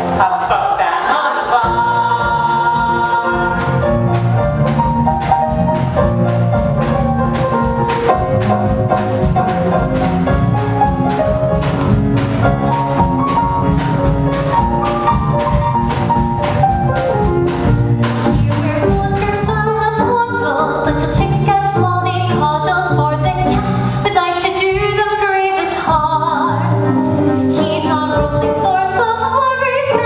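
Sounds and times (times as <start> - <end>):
drum kit beat: 0.0 - 29.0
instrumental band music: 0.0 - 30.0.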